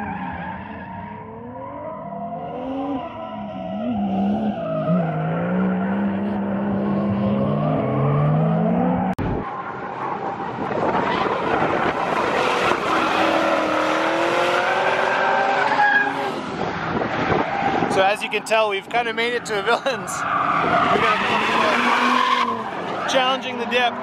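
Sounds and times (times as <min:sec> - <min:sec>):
car engines revving: 0:00.0 - 0:24.0
tyres squealing and skidding: 0:00.0 - 0:24.0.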